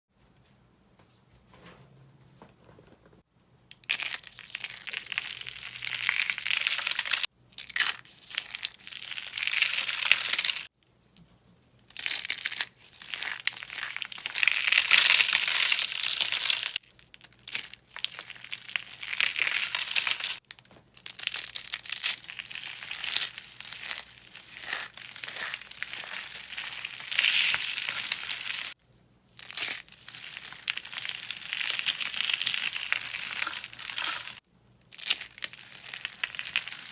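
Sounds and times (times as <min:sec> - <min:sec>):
dry soap crunching: 0:03.7 - 0:10.7, 0:11.9 - 0:28.8, 0:29.4 - 0:36.9.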